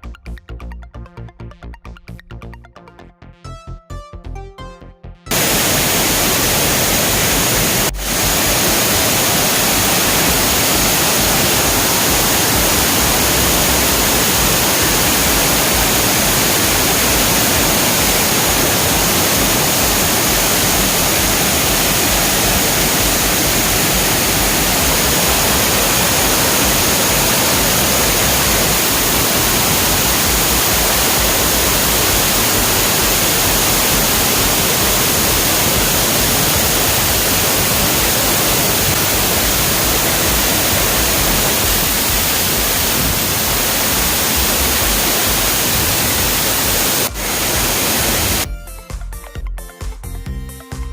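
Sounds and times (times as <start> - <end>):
waterfall rushing: 5.3 - 48.5.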